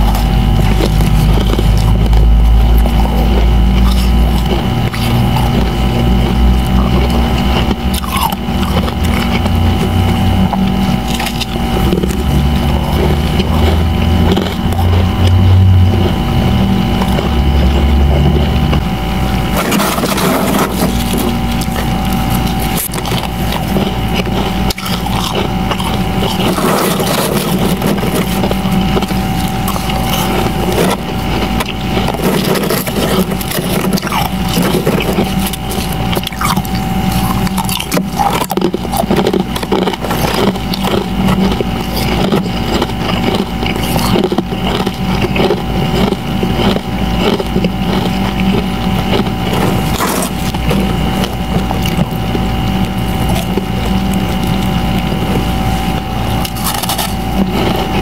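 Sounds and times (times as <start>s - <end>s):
crunching and scraping of frost: 0.0s - 58.0s
faint hum: 0.0s - 58.0s.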